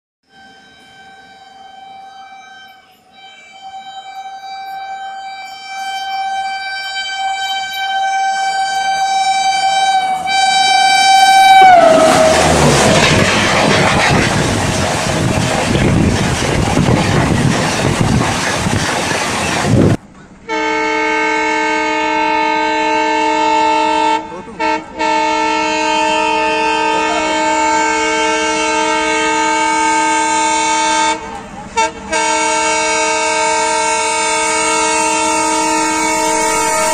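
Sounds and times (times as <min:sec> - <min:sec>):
train horn: 0:00.2 - 0:14.6, 0:20.5 - 0:36.9
train coaches rushing past: 0:00.4 - 0:20.5, 0:24.3 - 0:36.9.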